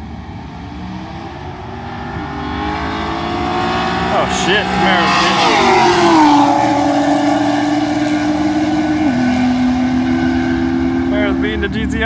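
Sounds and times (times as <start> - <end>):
cars racing at full throttle: 0.0 - 12.0.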